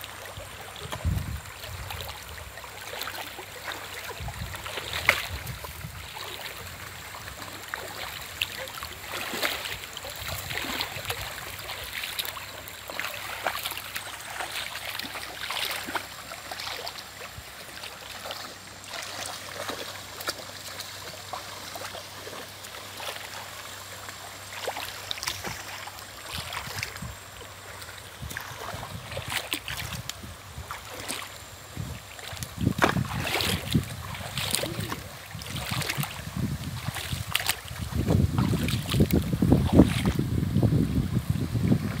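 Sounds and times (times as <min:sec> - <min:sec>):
river water splashing: 0:00.0 - 0:42.0.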